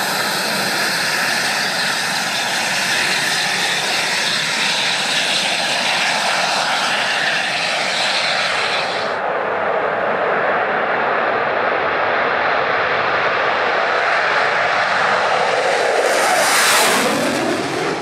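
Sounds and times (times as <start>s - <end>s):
jet engine running: 0.0s - 18.0s.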